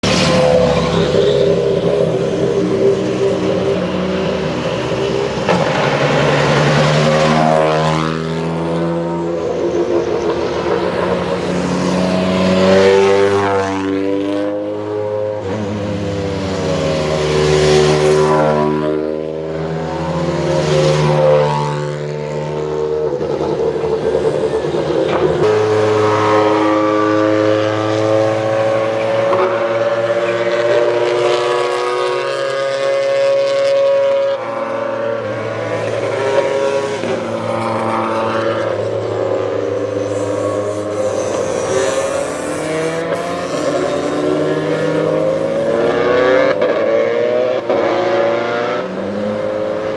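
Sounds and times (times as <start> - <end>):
rally cars driving past: 0.0 - 49.9.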